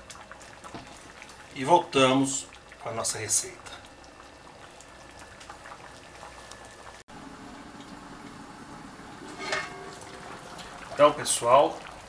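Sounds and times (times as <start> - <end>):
stew bubbling in a pot: 0.0 - 12.0.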